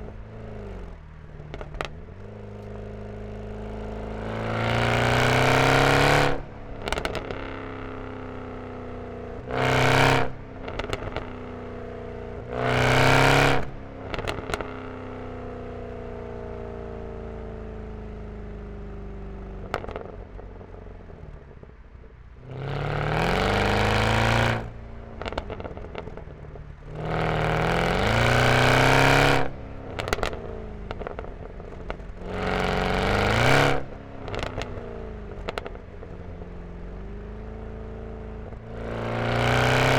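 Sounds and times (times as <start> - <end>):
exhaust crackles and pops: 0.0 - 15.4, 19.4 - 39.9
car engine revving: 0.0 - 15.5, 22.4 - 39.9.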